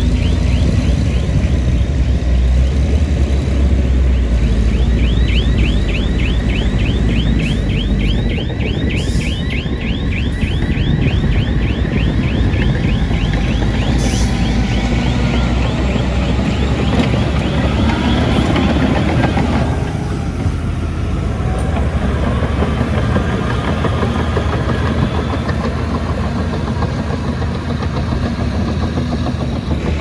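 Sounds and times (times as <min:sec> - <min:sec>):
diesel machine running: 0:00.0 - 0:30.0.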